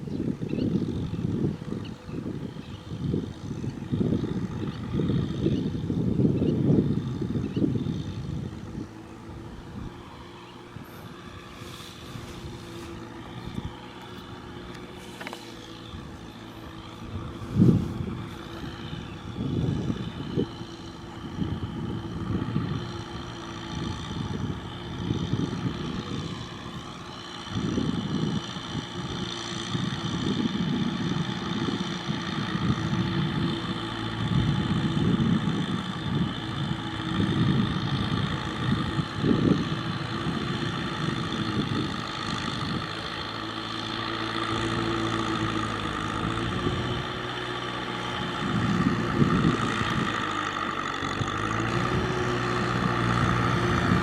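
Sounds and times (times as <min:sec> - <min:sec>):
tractor engine rumbling: 0:00.0 - 0:54.0.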